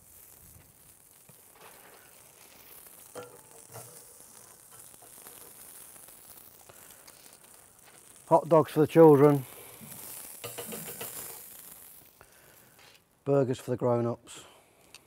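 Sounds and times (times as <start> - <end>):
meat sizzling over coals: 0.0 - 15.0.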